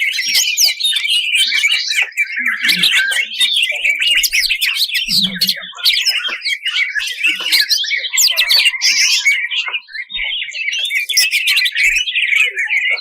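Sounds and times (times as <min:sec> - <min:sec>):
bird singing harsh chirps: 0:00.0 - 0:13.0.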